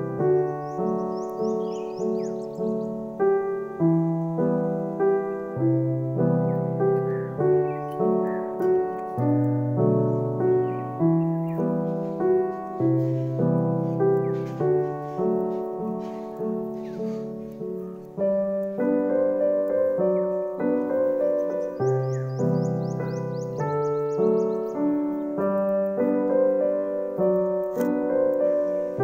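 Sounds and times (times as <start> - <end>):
slow piano-like keyboard chords: 0.0 - 29.0.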